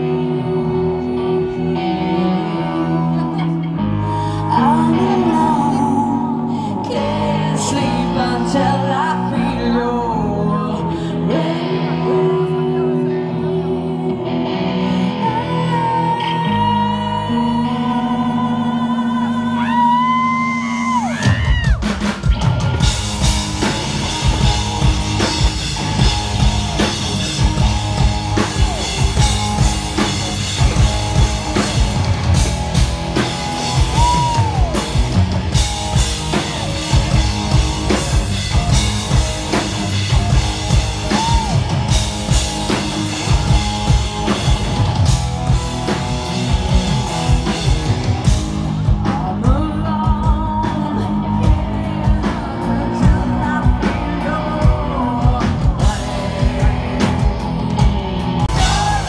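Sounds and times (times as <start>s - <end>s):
electric guitar with bent notes: 0.0s - 59.0s
live rock band playing: 0.0s - 59.0s.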